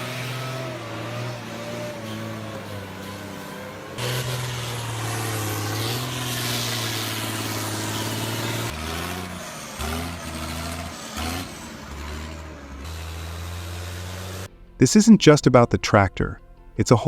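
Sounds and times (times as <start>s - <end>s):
tractor engine running under load: 0.0s - 14.8s.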